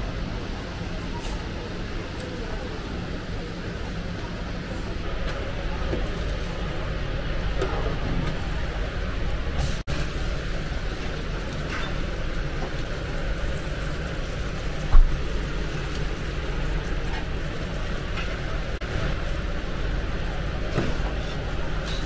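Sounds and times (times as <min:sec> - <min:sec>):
kitchen noise with low rumble: 0:00.0 - 0:22.0.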